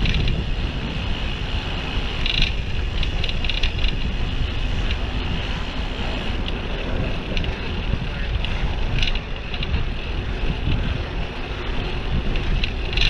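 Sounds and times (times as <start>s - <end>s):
road traffic: 0.0s - 13.0s
wind buffeting microphone: 0.0s - 13.0s.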